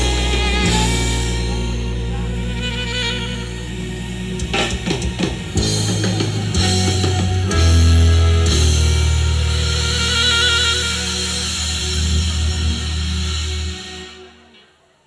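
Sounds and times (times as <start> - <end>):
live band music: 0.0 - 14.8.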